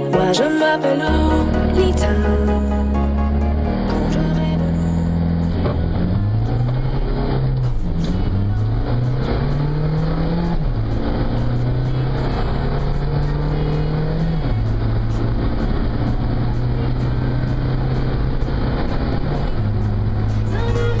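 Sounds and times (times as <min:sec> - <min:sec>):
pop song playing: 0:00.0 - 0:21.0
car engine with gear changes: 0:01.1 - 0:21.0.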